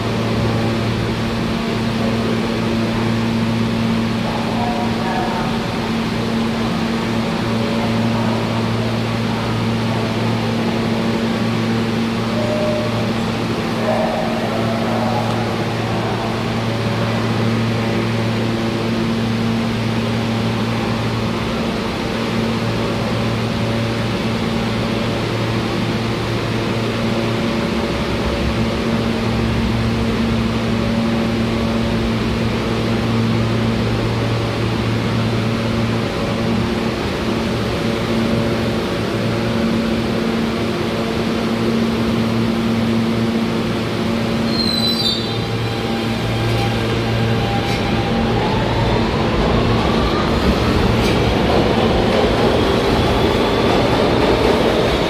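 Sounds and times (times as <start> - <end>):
subway station droning hum: 0.0 - 55.0.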